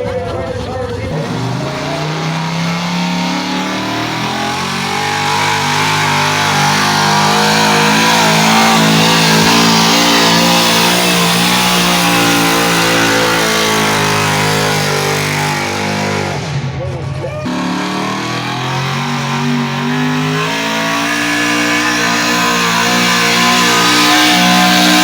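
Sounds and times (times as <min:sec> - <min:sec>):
truck engine at high revs: 0:00.0 - 0:25.0.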